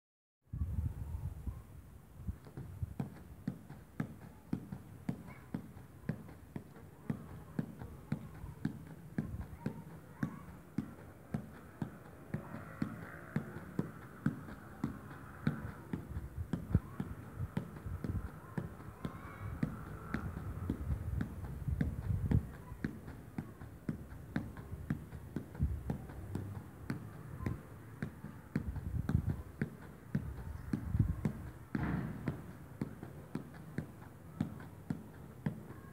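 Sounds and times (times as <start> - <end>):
soft kicks of small ball: 2.3 - 35.8.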